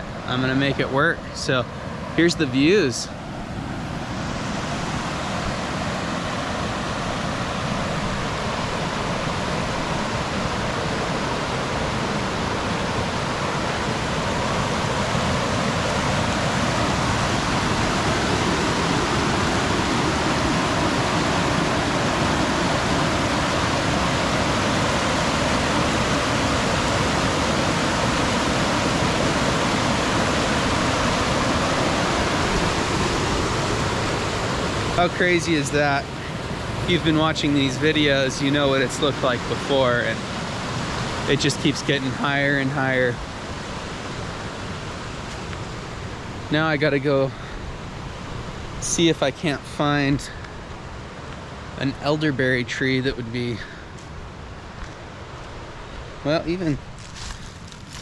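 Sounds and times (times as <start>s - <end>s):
river rushing over waterfall: 0.0s - 58.0s.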